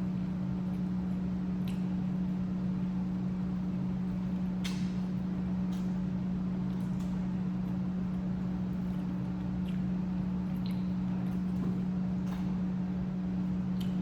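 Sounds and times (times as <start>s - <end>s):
low appliance hum: 0.0s - 14.0s.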